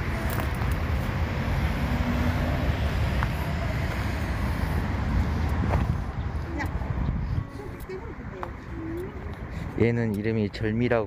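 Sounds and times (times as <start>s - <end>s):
wind on microphone: 0.0s - 9.8s
road traffic rumble: 0.0s - 11.0s.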